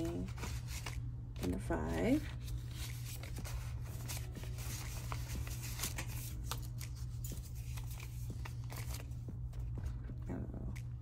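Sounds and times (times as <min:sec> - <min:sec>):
paper money rustling: 0:00.0 - 0:09.7.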